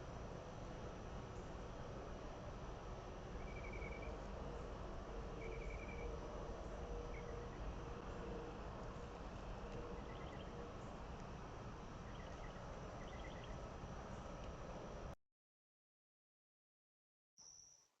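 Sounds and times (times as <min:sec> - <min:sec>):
outdoor background noise: 0:00.0 - 0:15.2.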